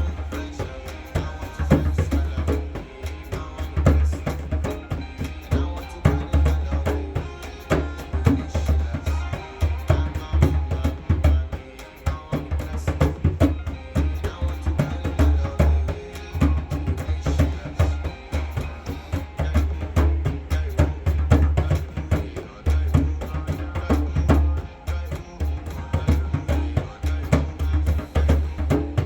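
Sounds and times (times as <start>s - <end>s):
afrobeats song: 0.0s - 29.0s
drum and percussion hits: 0.0s - 29.0s.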